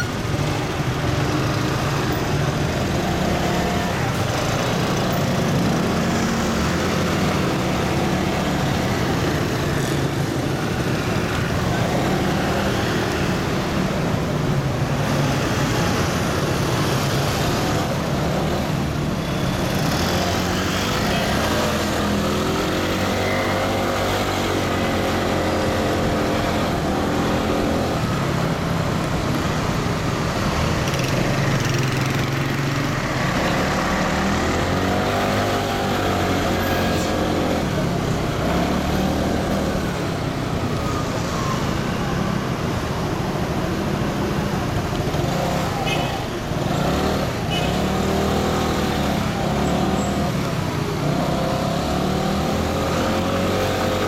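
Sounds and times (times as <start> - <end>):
city traffic: 0.0 - 54.0.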